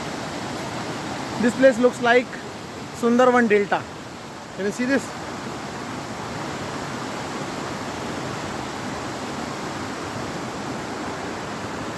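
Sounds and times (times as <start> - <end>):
river water flowing: 0.0 - 11.9.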